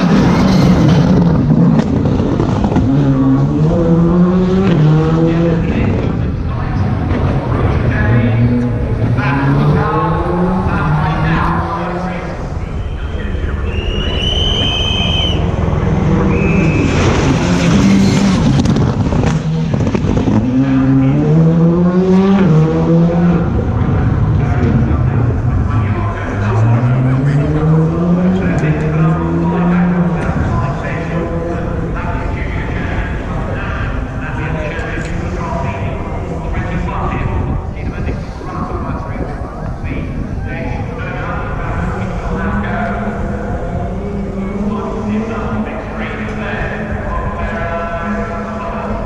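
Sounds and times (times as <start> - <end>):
rally car engine running: 0.0 - 12.8, 13.6 - 49.0.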